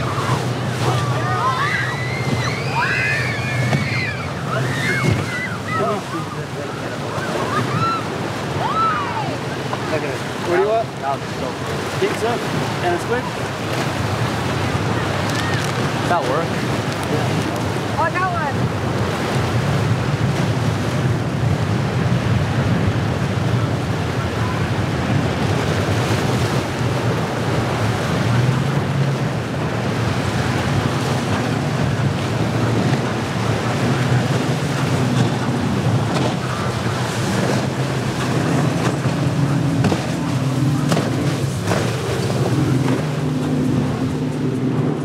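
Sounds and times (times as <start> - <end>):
outboard engines droning: 0.0 - 45.0
waves breaking: 0.0 - 45.0
wind buffeting microphone: 0.0 - 45.0.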